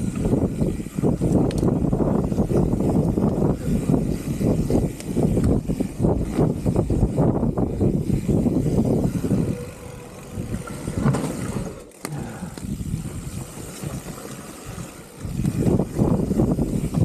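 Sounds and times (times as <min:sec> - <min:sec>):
wind on microphone: 0:00.0 - 0:11.8, 0:12.5 - 0:17.0
bike tyres rumbling and rattling: 0:00.0 - 0:17.0.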